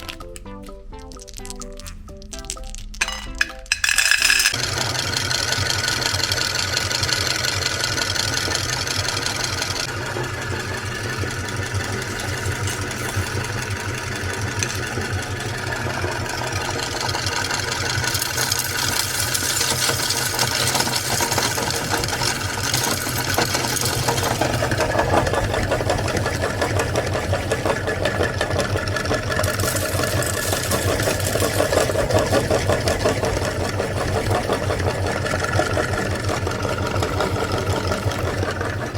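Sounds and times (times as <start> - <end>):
candy crunching in grinder: 0.0 - 38.9
electric meat grinder running: 4.5 - 38.9.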